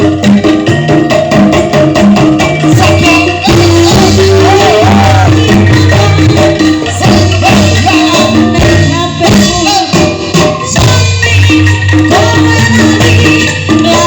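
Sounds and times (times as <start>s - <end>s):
bass line: 0.0s - 14.0s
live band music: 0.0s - 14.0s.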